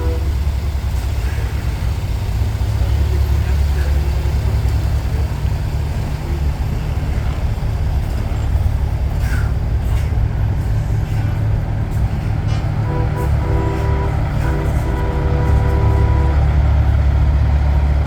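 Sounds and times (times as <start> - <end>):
diesel trucks rumbling past: 0.0 - 18.0.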